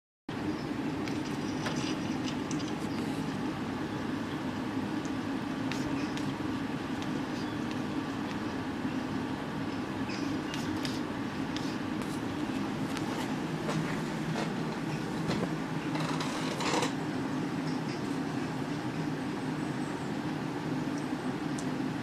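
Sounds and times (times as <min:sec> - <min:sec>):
desk fan motor hum: 0:00.3 - 0:22.0
fan air whoosh: 0:00.3 - 0:22.0.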